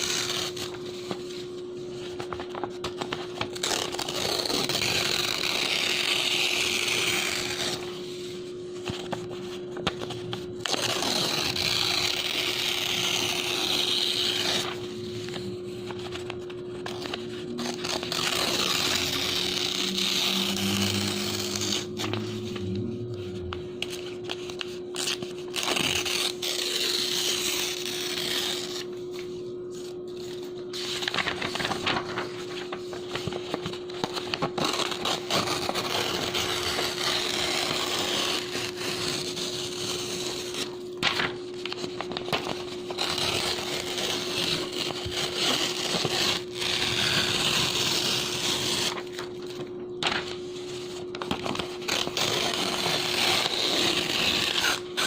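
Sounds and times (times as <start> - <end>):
paper tearing: 0.0 - 8.3, 8.9 - 55.0.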